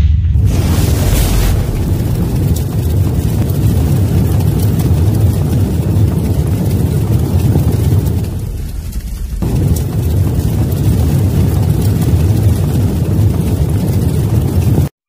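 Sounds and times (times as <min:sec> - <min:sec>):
fire rumbling: 0:00.0 - 0:15.0
faint fire crackles: 0:00.3 - 0:14.9.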